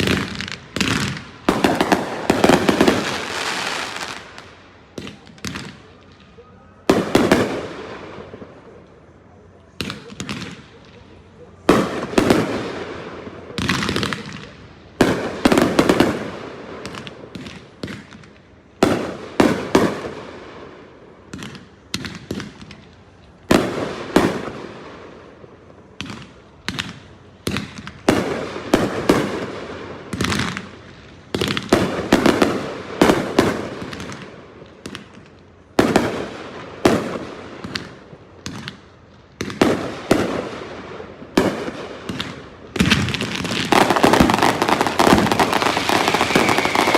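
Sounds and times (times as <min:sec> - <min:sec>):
fireworks bursting with bangs: 0:00.0 - 0:46.9.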